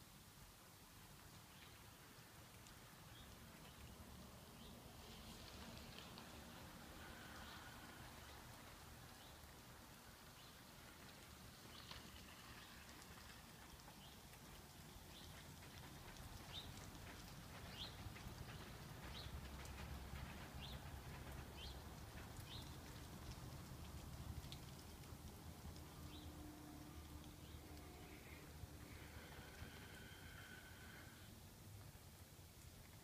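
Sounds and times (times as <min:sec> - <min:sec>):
low outdoor rumble: 0:00.3 - 0:33.0.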